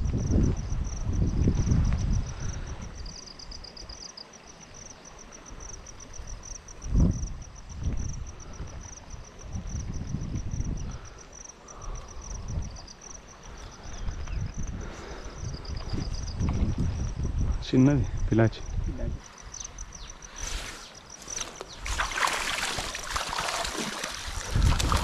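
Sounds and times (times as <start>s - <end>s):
insects chirping trill: 0.0s - 25.0s
lower insect chirping call: 0.0s - 25.0s.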